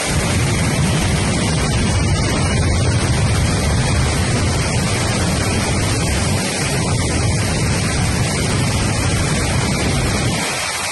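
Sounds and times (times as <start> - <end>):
floodwater rushing and rumbling: 0.0 - 10.9.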